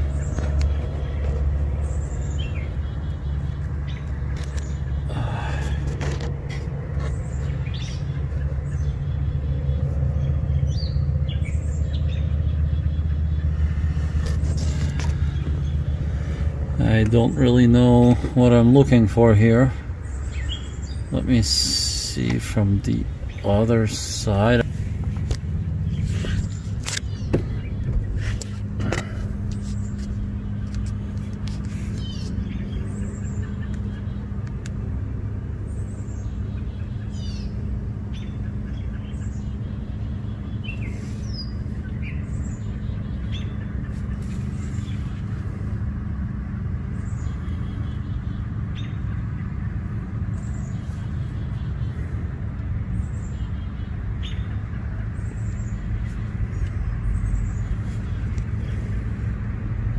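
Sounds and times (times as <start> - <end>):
birds chirping: 0.0 - 59.9
vehicle engine idling: 0.0 - 59.9.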